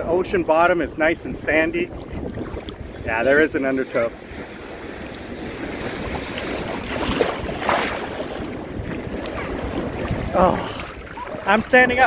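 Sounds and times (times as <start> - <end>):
sea surf washing: 0.0 - 12.0
wind buffeting microphone: 0.0 - 12.0.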